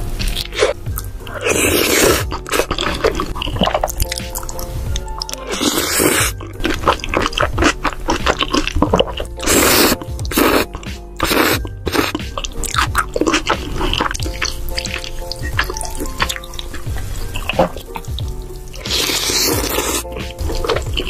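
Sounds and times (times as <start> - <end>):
background music: 0.0 - 21.0
slurping sauce from a spoon: 0.4 - 18.1, 18.7 - 21.0.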